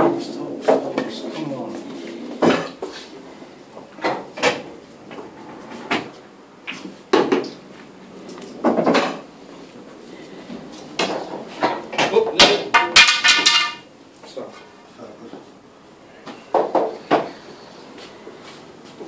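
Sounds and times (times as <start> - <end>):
low background noise: 0.0 - 19.0.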